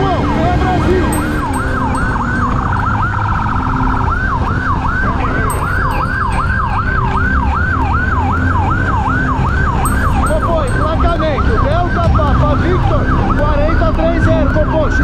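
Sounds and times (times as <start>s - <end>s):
low vehicle rumble: 0.0s - 15.0s
police siren yelping: 0.0s - 15.0s.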